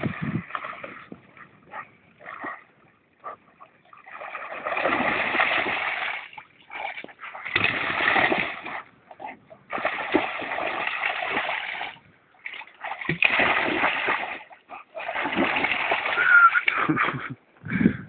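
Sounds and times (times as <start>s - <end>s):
dog splashing through water: 0.0s - 16.8s.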